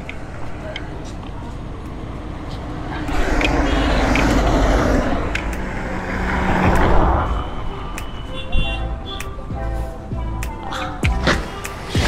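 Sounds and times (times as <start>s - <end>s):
cars passing close by: 0.0s - 12.0s.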